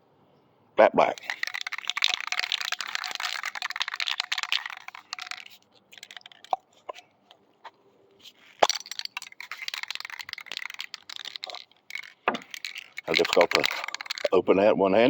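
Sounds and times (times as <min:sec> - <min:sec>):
plastic cap crackling and scraping: 0:01.0 - 0:14.4
plastic clicks: 0:01.1 - 0:07.4, 0:08.2 - 0:14.4.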